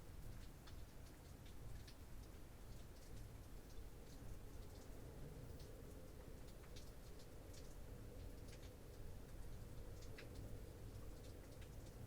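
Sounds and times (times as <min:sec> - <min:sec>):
rain drops ticking on a roof: 0:00.0 - 0:12.0.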